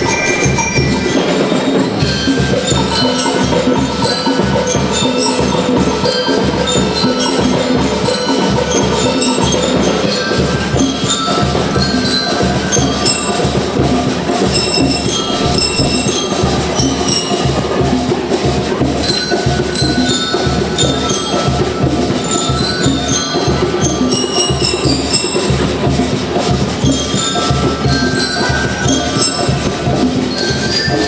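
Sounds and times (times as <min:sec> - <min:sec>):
ringing mallet instruments: 0:00.0 - 0:31.0
steady drum beat: 0:00.0 - 0:31.0.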